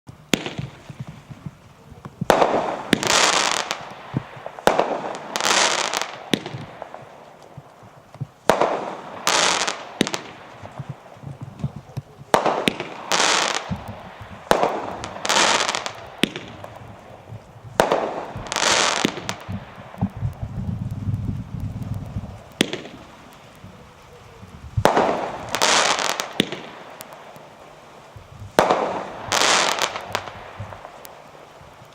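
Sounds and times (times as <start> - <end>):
firework crackling burst: 0.2 - 31.9.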